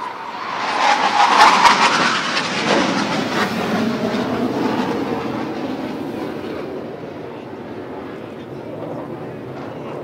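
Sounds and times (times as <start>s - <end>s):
jet roar passing overhead: 0.0s - 10.0s.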